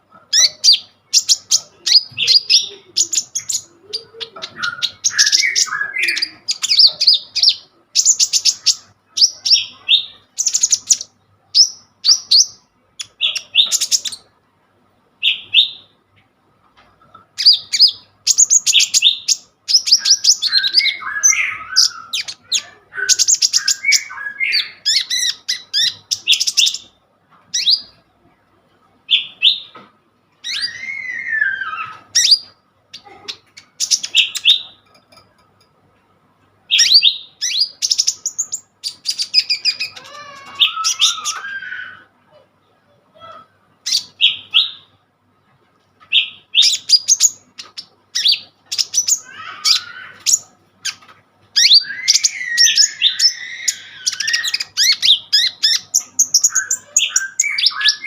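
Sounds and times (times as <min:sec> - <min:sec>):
sunbird singing: 0:00.2 - 0:14.3, 0:17.1 - 0:28.0, 0:30.4 - 0:35.4, 0:36.7 - 0:42.0, 0:46.1 - 0:51.0, 0:51.6 - 0:58.0.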